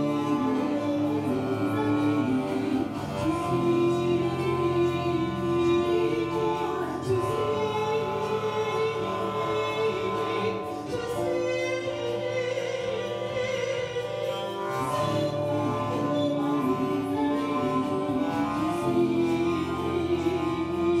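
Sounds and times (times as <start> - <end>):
woman singing operatically: 0.0 - 21.0.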